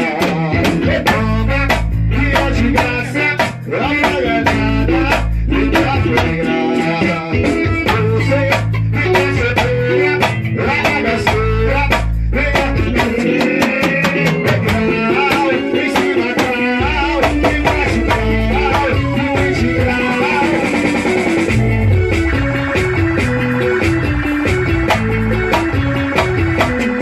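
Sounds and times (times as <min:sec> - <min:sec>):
drum kit steady beat: 0:00.0 - 0:27.0
guitar: 0:00.0 - 0:27.0.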